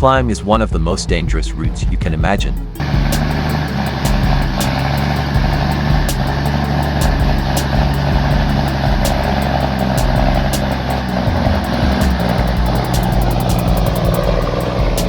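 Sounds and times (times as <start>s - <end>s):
truck engine labouring: 2.6s - 15.0s.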